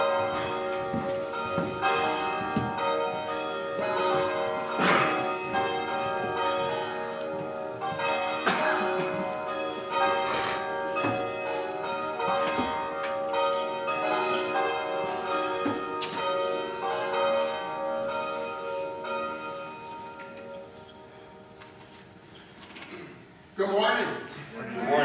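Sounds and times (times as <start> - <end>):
church bells ringing: 0.0 - 22.5.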